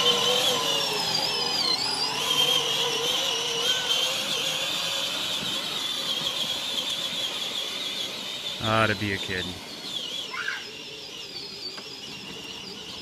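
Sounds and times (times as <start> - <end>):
toy car electric motors whining: 0.0 - 13.0.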